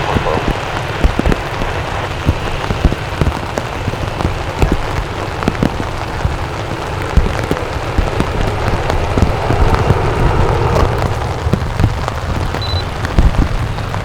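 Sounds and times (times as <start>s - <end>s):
raindrops ticking and thumping: 0.0s - 14.0s
steady rain: 0.0s - 14.0s.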